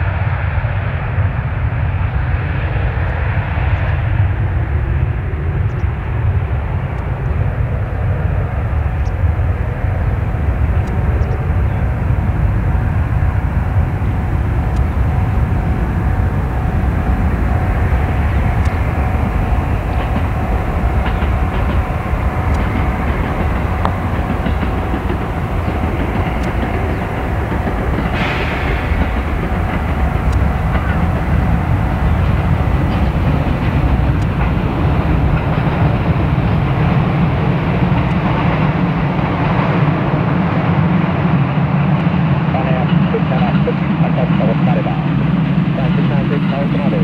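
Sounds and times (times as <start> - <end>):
faint steady whine: 0.0 - 47.0
jet engines deep rumble: 0.0 - 47.0.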